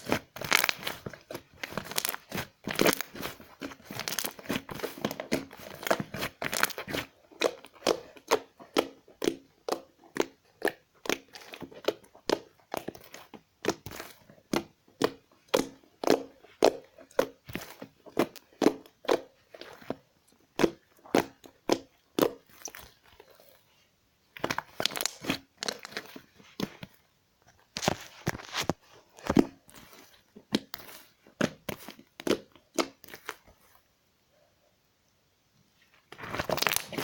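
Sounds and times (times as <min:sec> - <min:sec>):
slime crackling and popping: 0:00.0 - 0:23.6, 0:24.4 - 0:27.0, 0:28.7 - 0:33.5, 0:36.1 - 0:37.0.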